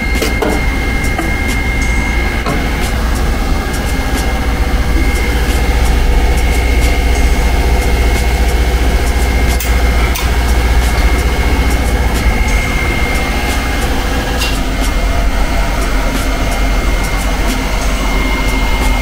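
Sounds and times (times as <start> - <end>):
low machine hum: 0.0 - 19.0
thin high whine: 0.0 - 19.0.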